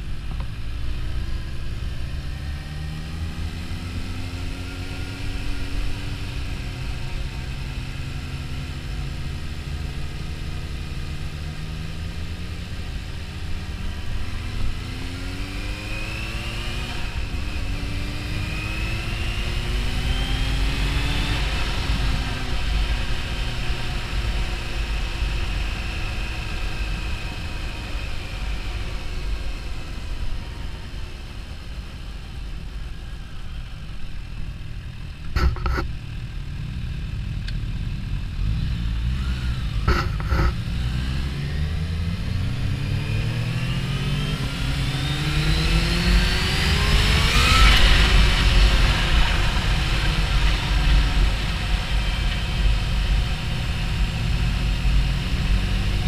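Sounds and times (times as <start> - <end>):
low rush of wind: 0.0 - 56.0
motorcycle engine accelerating: 0.0 - 56.0.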